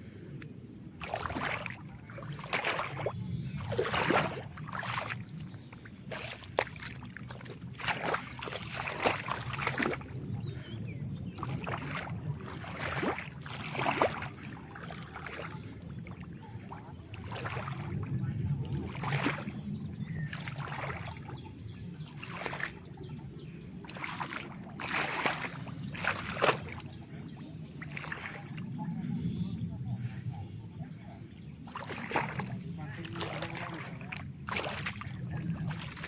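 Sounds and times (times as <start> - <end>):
mud and water splashing: 0.0 - 36.0.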